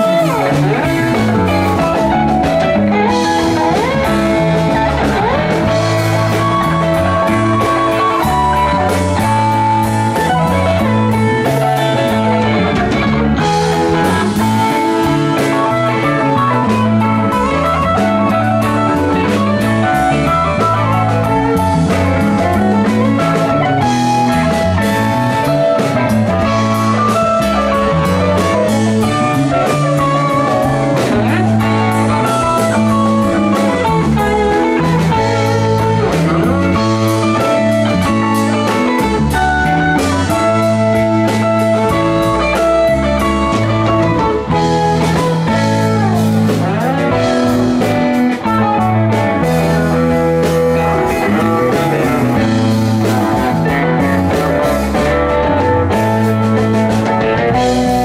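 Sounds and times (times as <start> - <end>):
drum kit: 0.0 - 58.0
electric bass: 0.0 - 58.0
electric guitar lines: 0.0 - 58.0
keyboards: 0.0 - 58.0.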